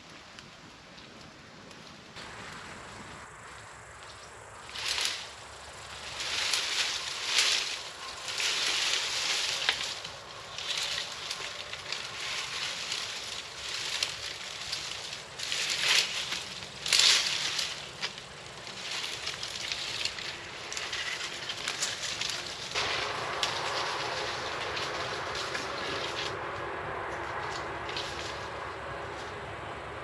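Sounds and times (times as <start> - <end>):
fire crackling and popping: 0.0 - 4.1, 4.7 - 28.6
fire rushing: 4.6 - 30.0.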